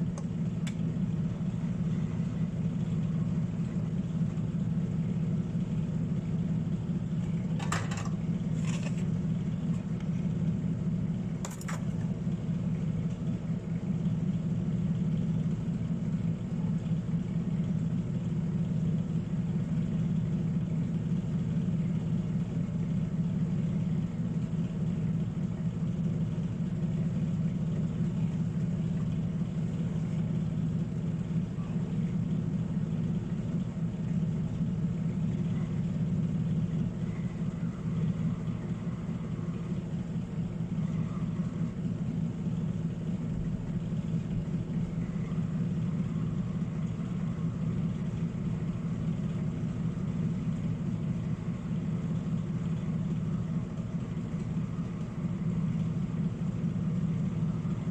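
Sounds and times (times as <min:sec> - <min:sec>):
machine hum with low drone: 0:00.0 - 0:57.9.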